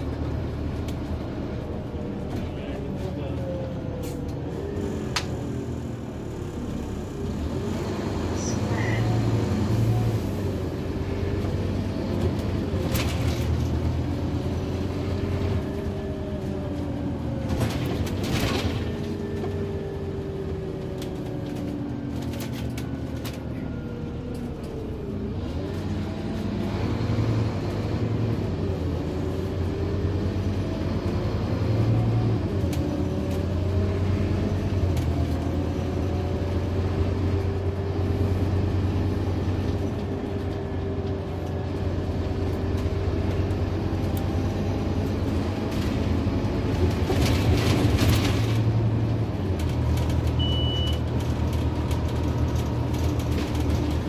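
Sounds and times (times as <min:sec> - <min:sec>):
bus engine rumble and whine: 0:00.0 - 0:54.0.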